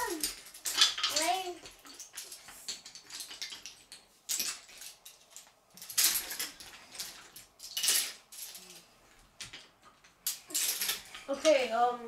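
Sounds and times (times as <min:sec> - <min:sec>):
wooden toy track and cars clattering: 0:00.0 - 0:12.0.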